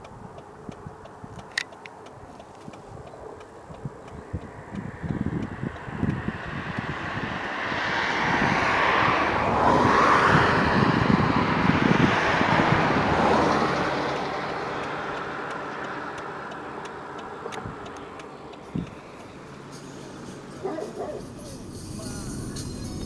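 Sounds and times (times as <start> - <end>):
vehicle driving past: 4.5 - 23.0.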